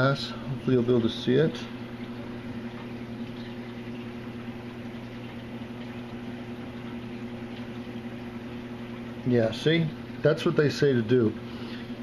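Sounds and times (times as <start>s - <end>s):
aquarium pumps humming: 0.0s - 12.0s
bubbling water: 0.0s - 12.0s.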